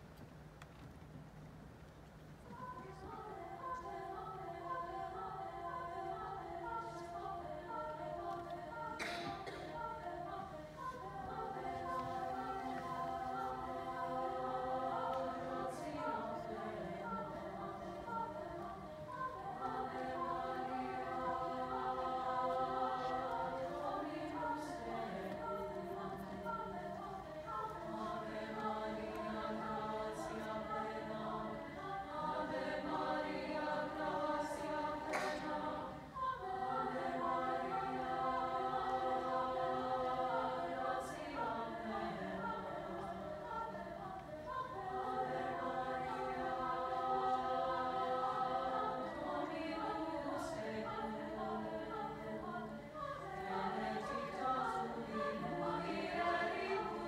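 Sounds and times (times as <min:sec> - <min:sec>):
mixed choir singing: 0:02.5 - 0:57.0.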